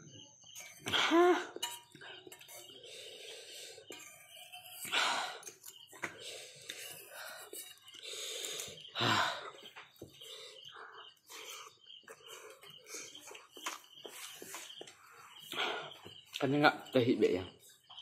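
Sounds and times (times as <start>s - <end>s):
hissing breaths: 0.6s - 16.3s.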